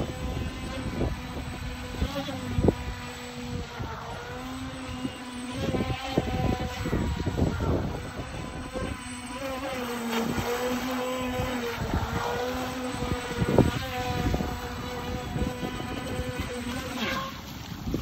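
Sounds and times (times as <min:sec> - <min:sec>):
model boat motor whine: 0:00.0 - 0:18.0.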